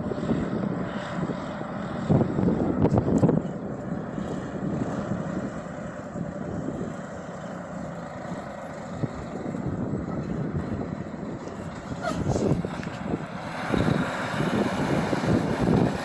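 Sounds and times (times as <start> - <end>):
trucks and cars passing: 0.0 - 16.0.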